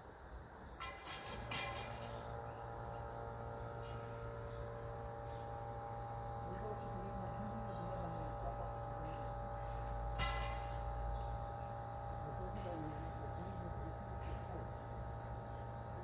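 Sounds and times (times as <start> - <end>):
faint steady tones: 0.0 - 16.0
steady low hum: 0.0 - 16.0.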